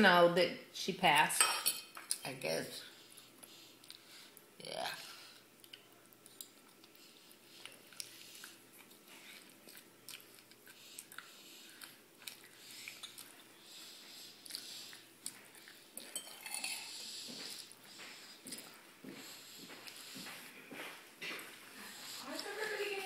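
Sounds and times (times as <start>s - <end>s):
person chewing food: 3.1s - 22.5s.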